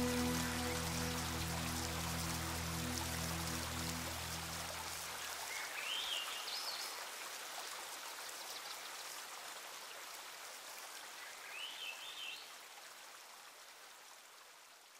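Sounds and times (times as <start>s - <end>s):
rushing river water: 0.0s - 14.9s.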